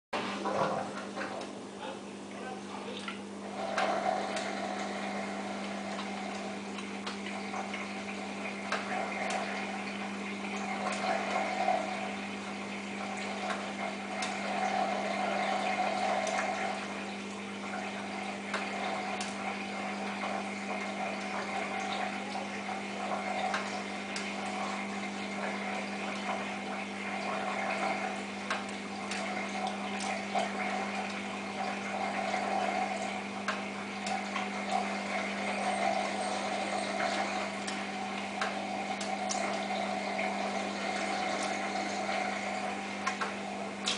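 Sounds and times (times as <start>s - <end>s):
drain pump humming: 0.2s - 43.9s
water gurgling: 0.2s - 43.9s.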